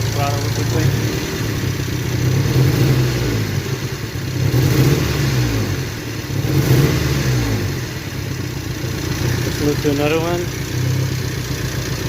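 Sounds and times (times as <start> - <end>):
misfiring engine revving: 0.0 - 12.0.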